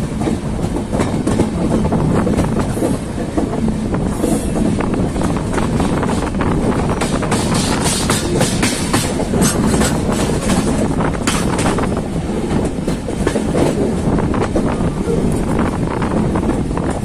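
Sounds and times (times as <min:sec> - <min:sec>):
train wheels rumbling on rails: 0:00.0 - 0:17.0
wheels clacking over rail joints: 0:00.0 - 0:17.0.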